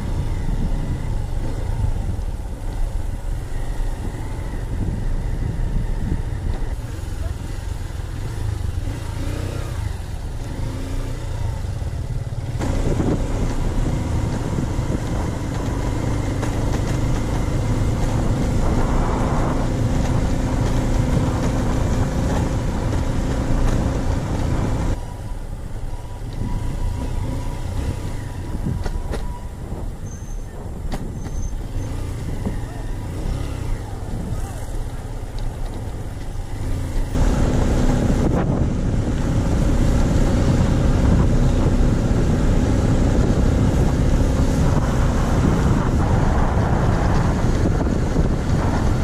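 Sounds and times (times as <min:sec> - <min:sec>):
motorcycle engine running: 0:00.0 - 0:49.0
road noise: 0:00.0 - 0:49.0.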